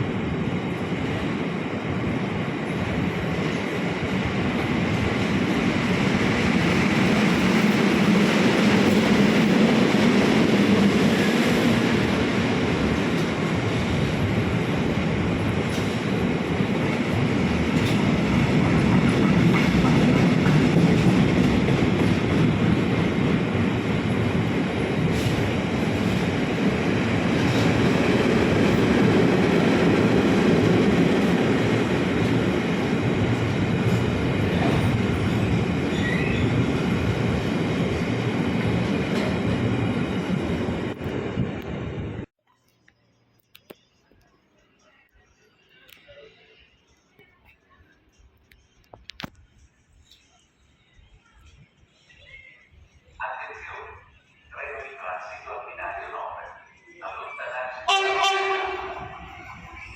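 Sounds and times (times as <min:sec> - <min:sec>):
train wheels rolling on rail: 0:00.0 - 0:42.3, 0:43.4 - 0:59.9.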